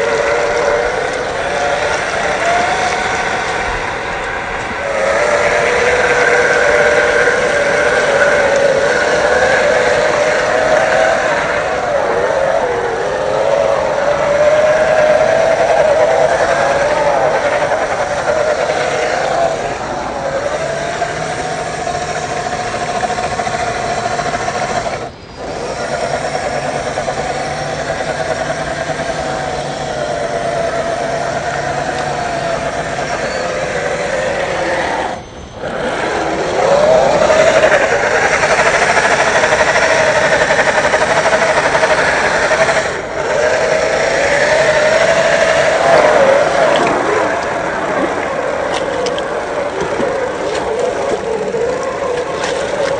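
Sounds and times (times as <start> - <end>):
toy car electric motor whining: 0.0 - 52.9.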